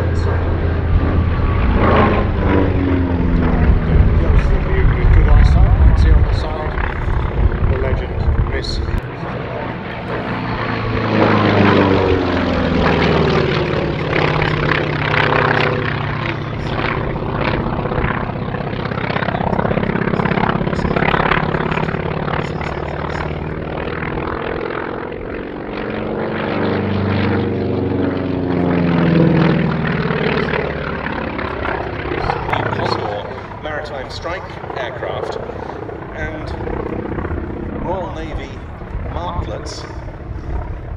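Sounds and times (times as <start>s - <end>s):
radial piston aircraft engine: 0.0s - 40.9s.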